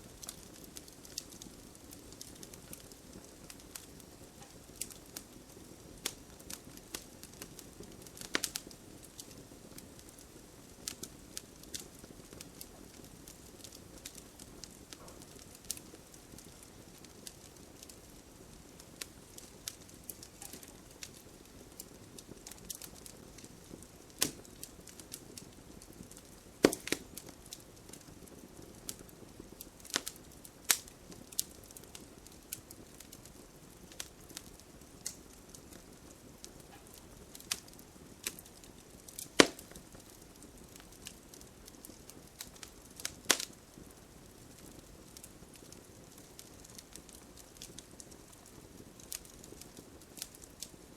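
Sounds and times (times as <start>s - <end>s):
campfire wood burning: 0.0s - 50.9s
fire crackles and pops: 0.0s - 50.9s.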